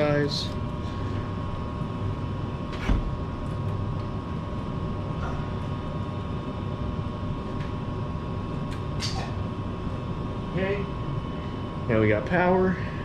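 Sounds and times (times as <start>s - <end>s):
faint steady whine: 0.0s - 13.0s
low hum and rumble: 0.0s - 13.0s.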